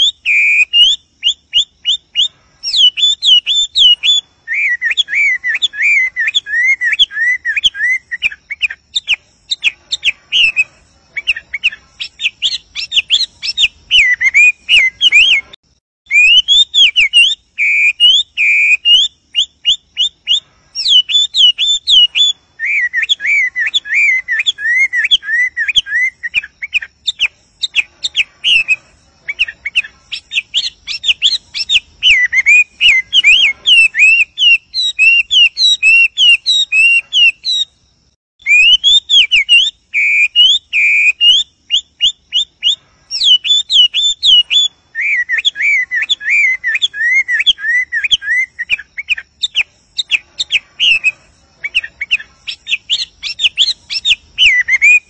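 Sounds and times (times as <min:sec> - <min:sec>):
bird singing whistled phrases: 0:00.0 - 0:37.8, 0:38.4 - 0:55.0.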